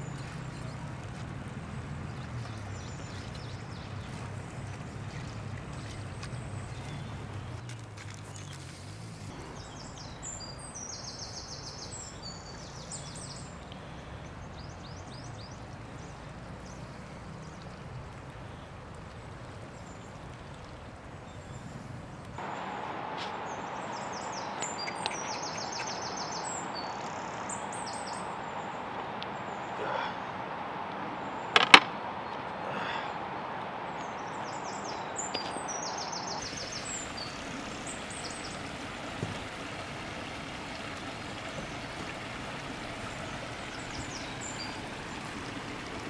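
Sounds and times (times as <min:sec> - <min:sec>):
small birds chirping: 0:00.0 - 0:22.5, 0:23.2 - 0:46.0
steady outdoor noise: 0:00.0 - 0:46.0.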